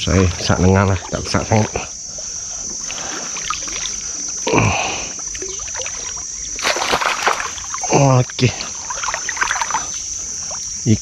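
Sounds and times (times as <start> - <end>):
paddle strokes in water: 0.0 - 8.0, 8.6 - 10.7
splashes and knocks: 0.3 - 1.9, 2.6 - 9.9.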